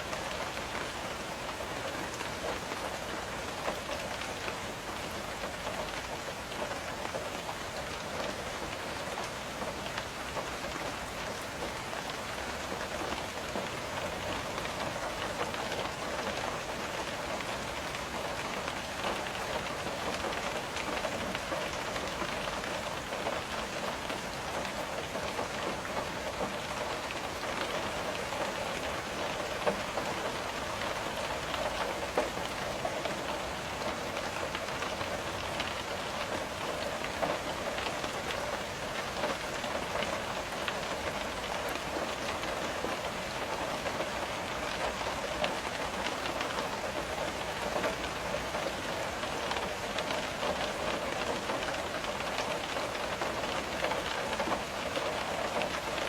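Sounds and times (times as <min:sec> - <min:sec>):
rain pattering on window: 0:00.0 - 0:56.0.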